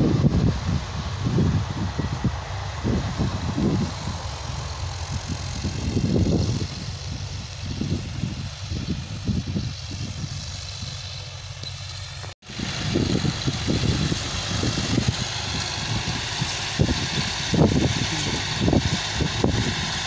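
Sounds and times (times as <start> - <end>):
tractor diesel engine rumble: 0.0 - 20.0.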